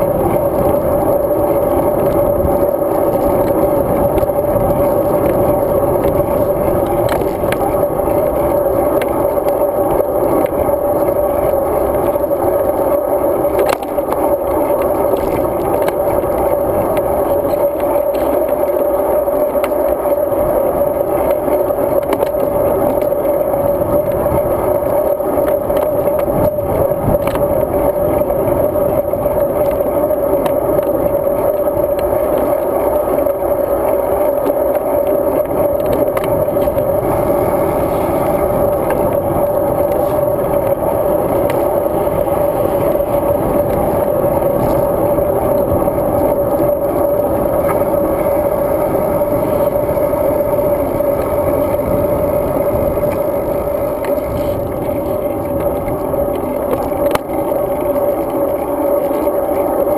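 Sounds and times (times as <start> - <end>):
constant hum: 0.0 - 59.9
road vibration: 0.0 - 59.9.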